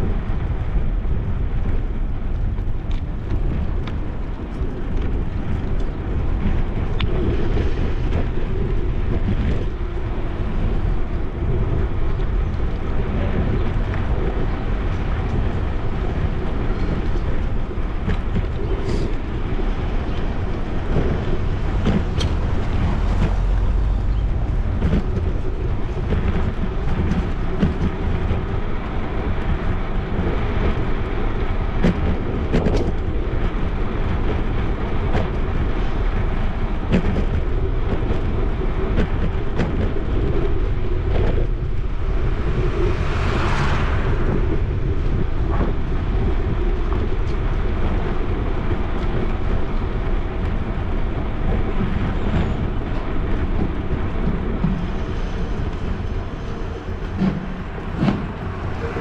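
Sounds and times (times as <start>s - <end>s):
bicycle rattling over bumps: 0.0s - 59.0s
tyre and road rumble: 0.0s - 59.0s
wind buffeting microphone: 0.0s - 59.0s.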